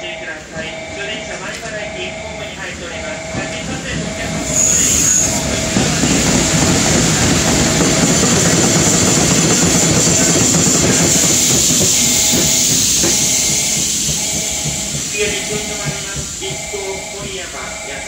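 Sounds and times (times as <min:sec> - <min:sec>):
train wheels clattering on rail joints: 0:03.4 - 0:18.0.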